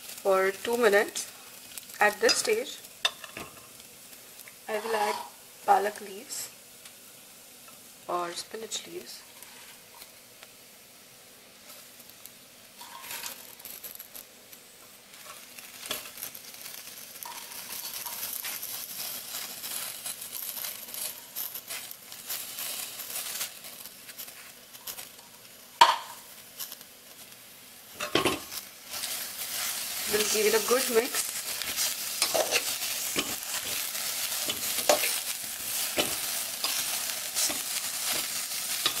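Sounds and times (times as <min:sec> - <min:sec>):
food sizzling in a pot: 0:00.0 - 0:39.0.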